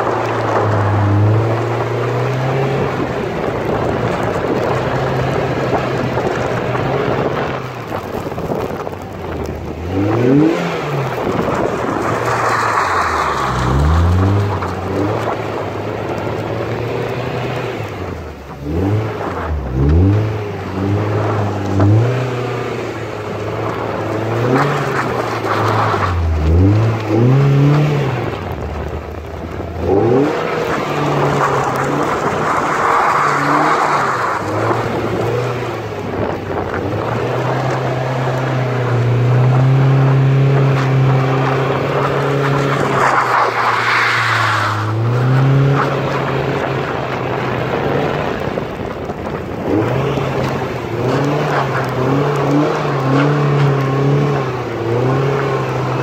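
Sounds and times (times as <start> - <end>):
car engine revving: 0.0 - 56.0
tyres spinning in snow: 0.0 - 56.0.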